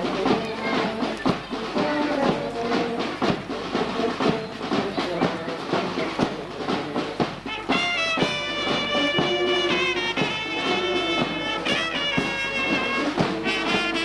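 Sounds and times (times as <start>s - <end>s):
brass band playing a march: 0.0s - 14.0s
drum beating: 0.0s - 14.0s
held brass chords: 0.0s - 14.0s.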